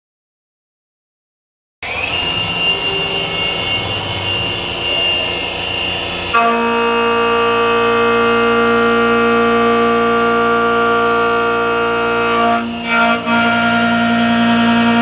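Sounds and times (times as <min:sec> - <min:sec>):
milling cutter whine on metal: 0:01.8 - 0:15.0.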